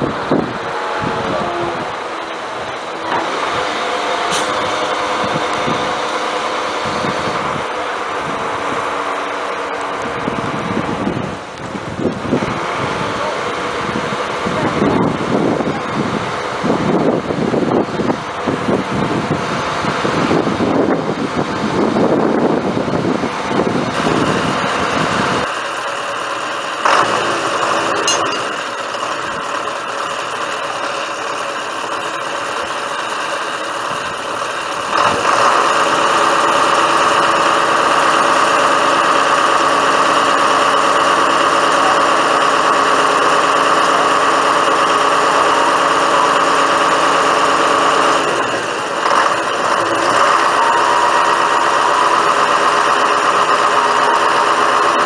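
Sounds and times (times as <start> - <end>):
crane engine running: 0.0 - 55.0.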